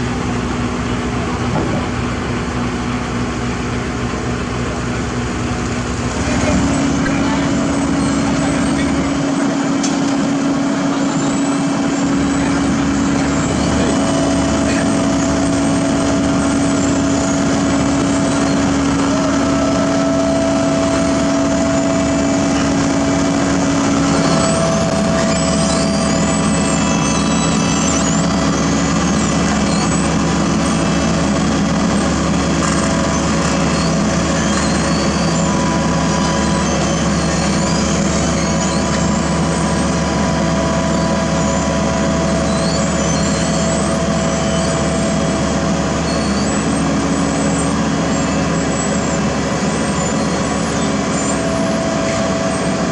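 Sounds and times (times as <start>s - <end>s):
diesel construction machinery running: 0.0s - 52.9s.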